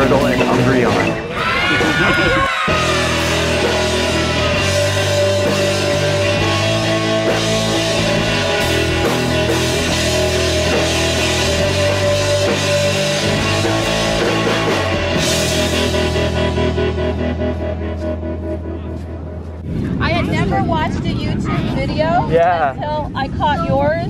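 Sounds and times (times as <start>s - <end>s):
rock music with electric guitar: 0.0s - 19.7s.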